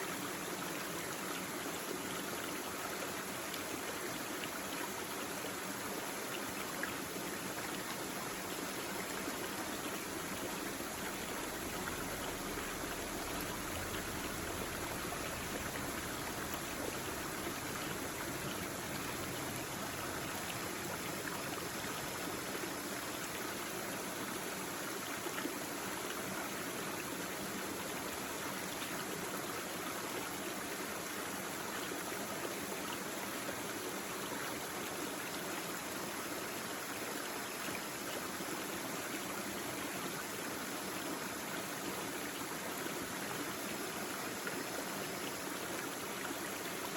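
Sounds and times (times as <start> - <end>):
stream babbling over stones: 0.0 - 46.9.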